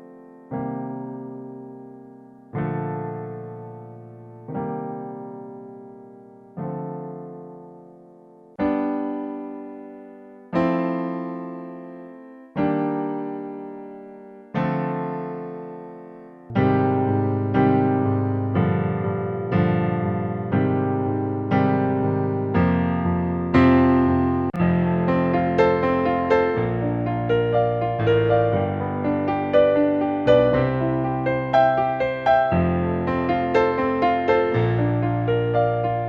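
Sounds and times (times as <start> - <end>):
piano bass notes: 0.0 - 36.0
piano chords: 0.0 - 36.0.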